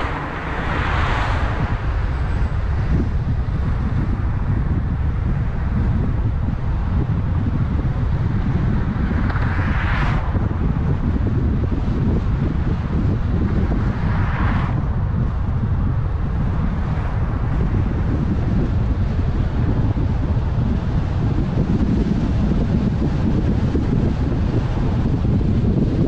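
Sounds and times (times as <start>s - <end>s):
car road and engine rumble: 0.0s - 26.0s
wind buffeting microphone: 0.0s - 26.0s.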